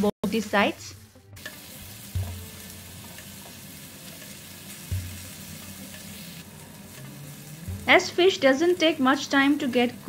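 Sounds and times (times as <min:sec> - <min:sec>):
fish sizzling in a pan: 0:00.3 - 0:10.0.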